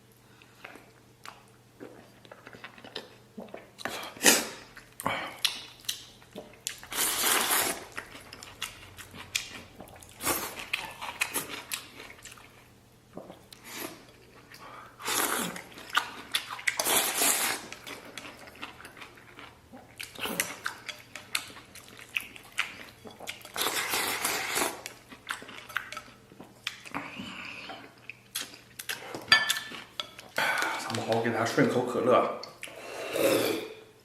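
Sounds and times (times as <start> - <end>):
man chewing and slurping: 0.5 - 12.6, 13.2 - 30.9.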